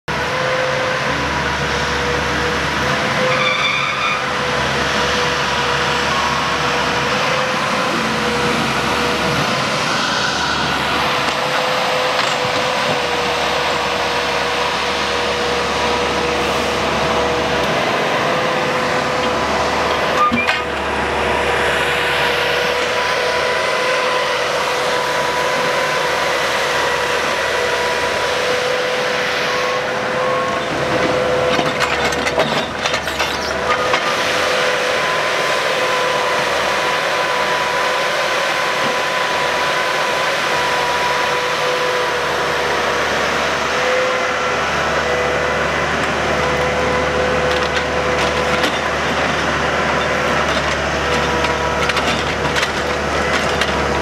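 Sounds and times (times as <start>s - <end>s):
crane engine running: 0.1s - 54.0s.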